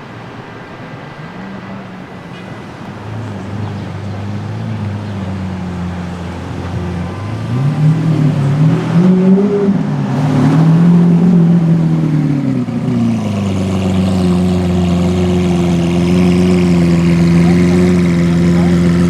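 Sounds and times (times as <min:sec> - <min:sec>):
car engine revving: 0:00.2 - 0:19.0.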